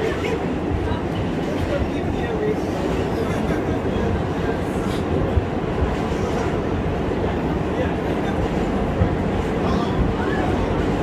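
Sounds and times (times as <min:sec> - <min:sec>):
subway car rumbling and rattling: 0:00.0 - 0:11.0.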